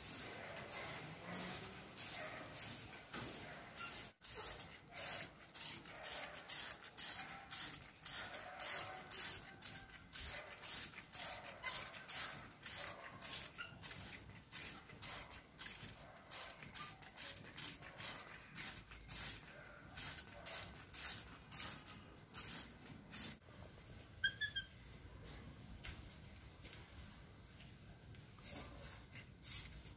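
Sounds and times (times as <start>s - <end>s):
spray bottle spritzes: 0.0s - 23.4s, 28.4s - 29.9s.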